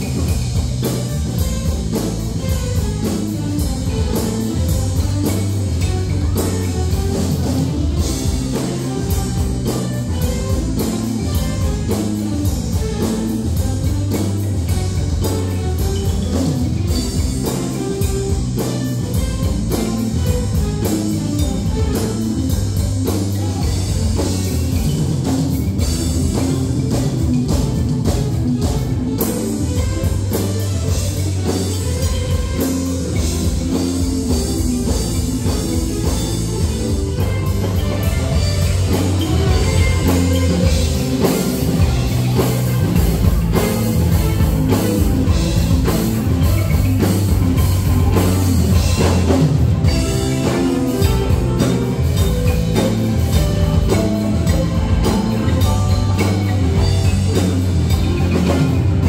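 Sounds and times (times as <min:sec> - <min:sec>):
bass guitar: 0:00.0 - 0:59.0
drum kit: 0:00.0 - 0:59.0
wooden xylophone struck with mallets: 0:00.0 - 0:59.0.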